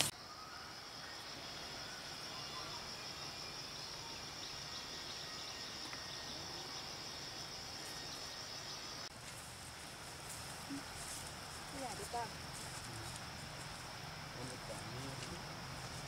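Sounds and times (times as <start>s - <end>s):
faint outdoor ambience: 0.0s - 16.0s
insects chirring: 0.0s - 16.0s.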